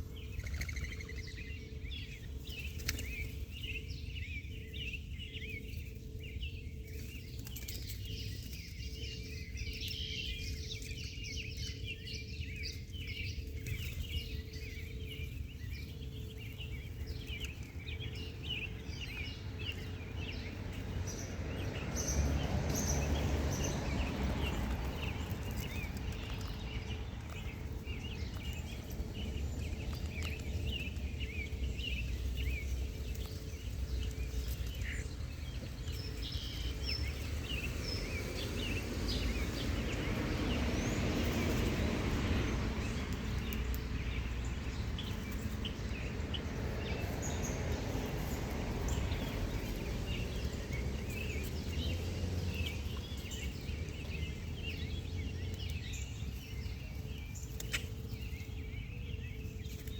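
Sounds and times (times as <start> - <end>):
low outdoor rumble: 0.0 - 59.9
small birds chirping: 0.0 - 59.9.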